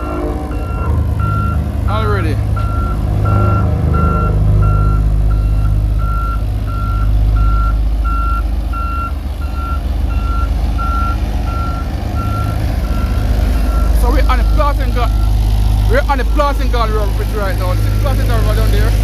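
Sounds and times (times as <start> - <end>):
reversing alarm beeping: 0.0 - 16.9
engine and road rumble: 0.0 - 19.0.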